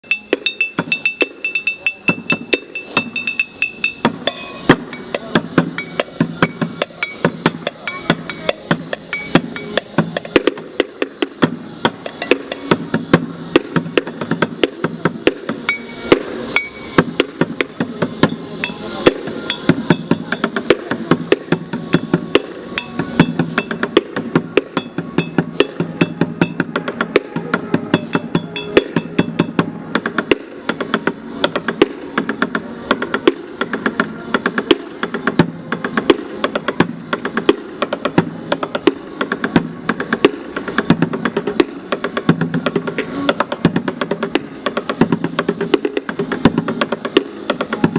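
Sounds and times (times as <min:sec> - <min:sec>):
drumming on bottles: 0:00.0 - 0:47.9.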